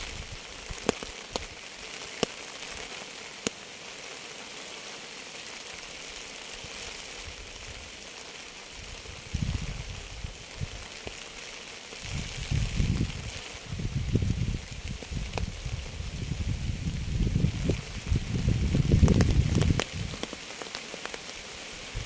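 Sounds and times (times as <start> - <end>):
rain hissing: 0.0 - 22.0.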